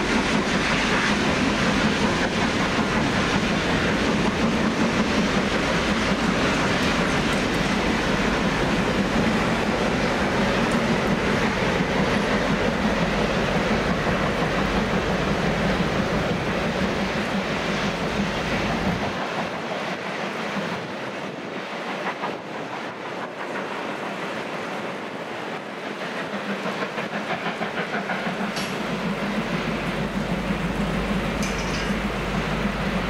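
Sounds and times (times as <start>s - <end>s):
wheel and rail noise: 0.0s - 33.0s.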